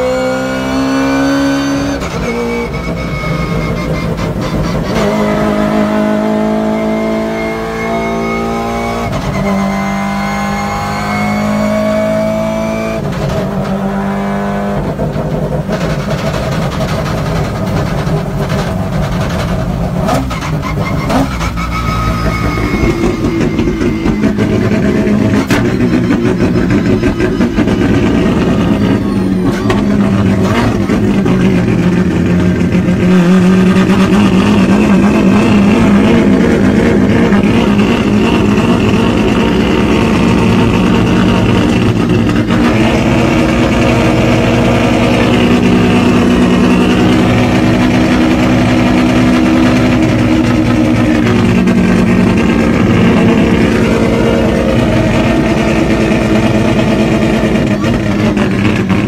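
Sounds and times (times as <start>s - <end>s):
rotary engine revving: 0.0s - 59.0s.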